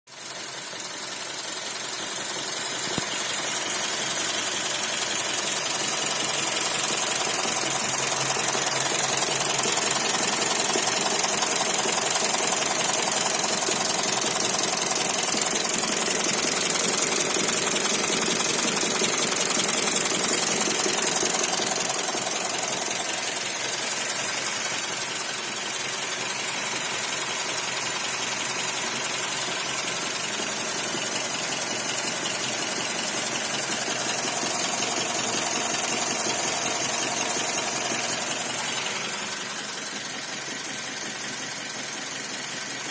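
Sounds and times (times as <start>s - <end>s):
car engine running: 0.1s - 42.9s
engine knocking: 0.1s - 42.9s.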